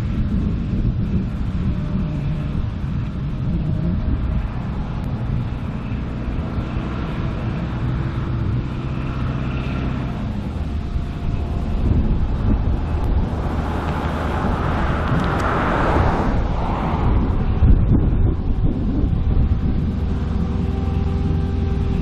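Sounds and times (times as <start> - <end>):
faint whine: 0.0 - 22.0
locomotive engine rumble: 0.0 - 22.0.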